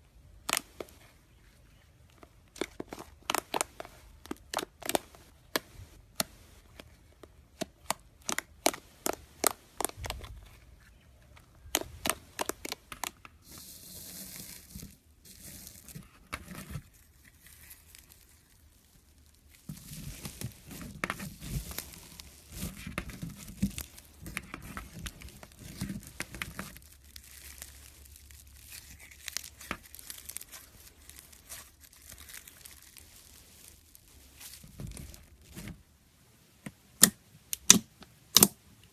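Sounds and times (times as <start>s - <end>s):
slime crackling and squishing: 0.3s - 35.8s.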